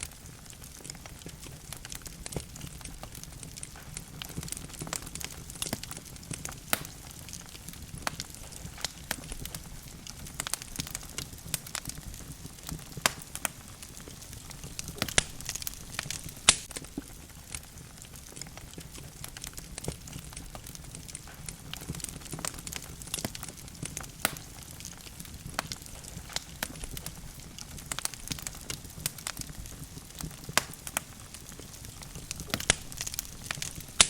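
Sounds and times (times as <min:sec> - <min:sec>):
logs crackling and popping: 0:00.0 - 0:34.0
low rumble of flames: 0:00.0 - 0:34.0.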